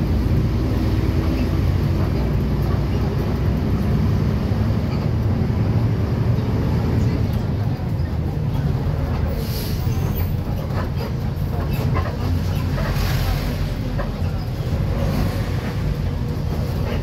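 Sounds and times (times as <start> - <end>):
bus engine and road rumble: 0.0 - 17.0
bus fittings rattling: 0.4 - 17.0.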